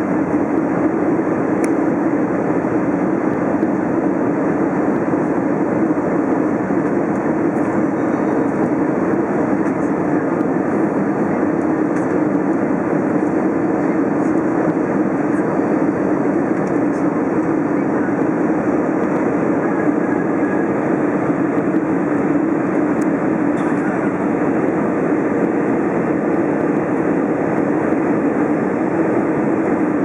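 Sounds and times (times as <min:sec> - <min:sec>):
aircraft cabin engine roar: 0:00.0 - 0:30.0.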